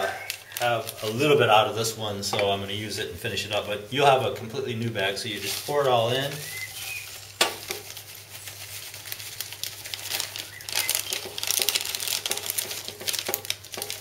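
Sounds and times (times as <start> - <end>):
salt grains pattering: 0.0 - 3.6, 4.7 - 14.0
plastic bags crinkling: 0.0 - 14.0.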